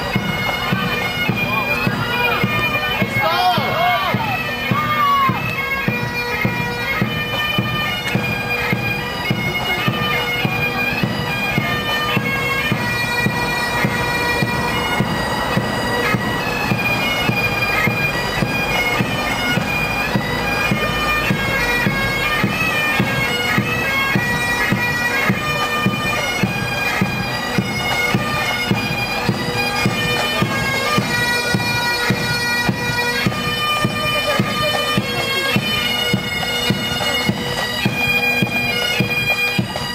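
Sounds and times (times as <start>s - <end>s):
bagpipes playing melody: 0.0s - 39.9s
drums marching beat: 0.0s - 39.9s.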